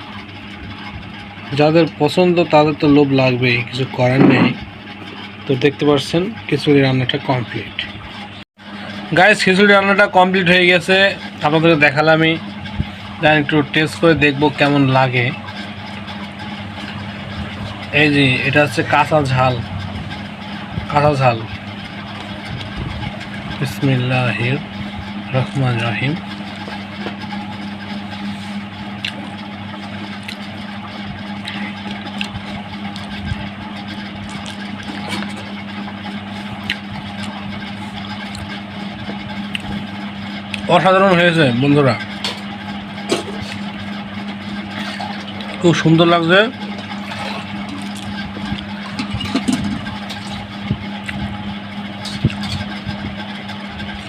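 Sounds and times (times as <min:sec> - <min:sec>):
mechanical hum: 0:00.0 - 0:54.0.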